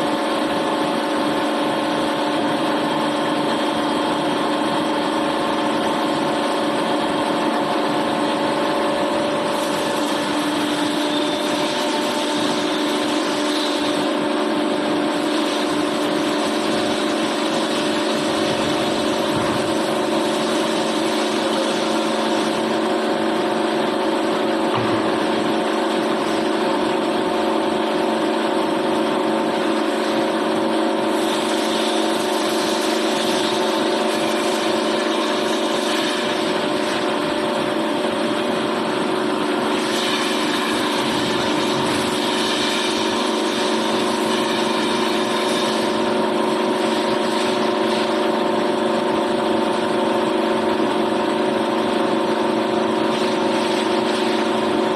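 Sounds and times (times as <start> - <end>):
machine humming: 0.0 - 50.4.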